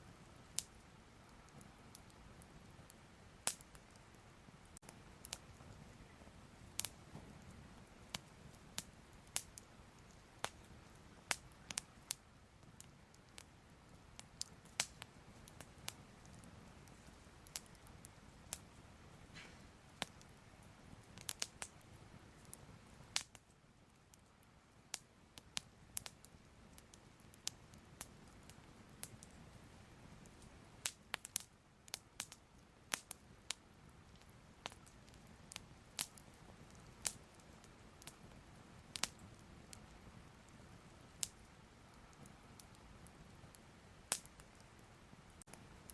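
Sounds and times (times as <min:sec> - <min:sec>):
fire crackling and popping: 0:00.0 - 0:45.9
low steady hiss: 0:00.0 - 0:45.9.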